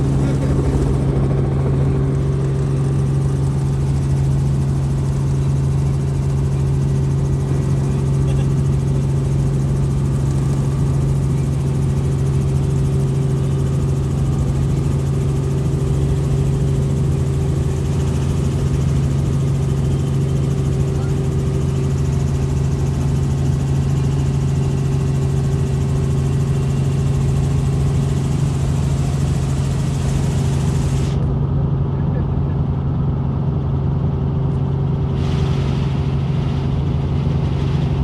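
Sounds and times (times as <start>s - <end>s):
helicopter rotor and engine drone: 0.0s - 38.0s.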